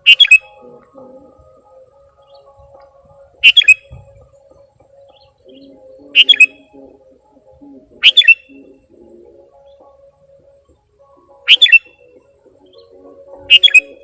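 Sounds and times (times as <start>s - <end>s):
bulbul calling: 0.0s - 14.0s.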